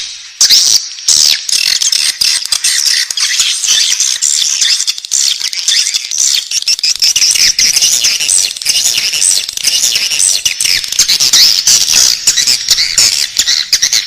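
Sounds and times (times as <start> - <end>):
bird chicks chirping: 0.0 - 14.0.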